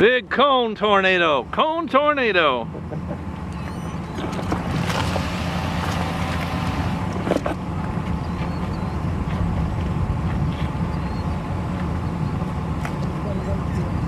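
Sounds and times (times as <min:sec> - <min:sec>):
steady low rumble: 0:02.4 - 0:14.0.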